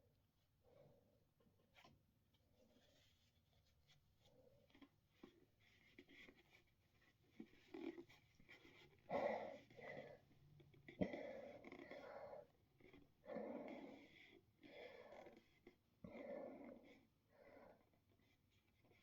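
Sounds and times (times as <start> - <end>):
soft breathing inside a mask: 0.5 - 19.0.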